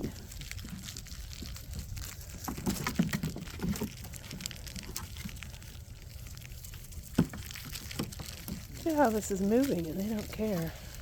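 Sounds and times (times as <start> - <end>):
puppies scuffling at play: 0.0 - 11.0.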